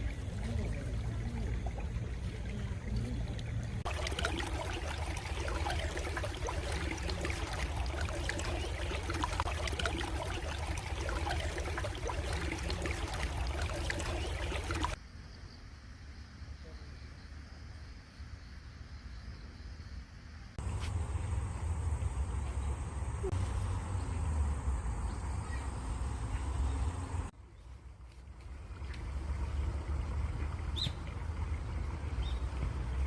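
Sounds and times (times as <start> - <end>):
stream water trickling and splashing: 0.0 - 15.0, 20.6 - 33.0.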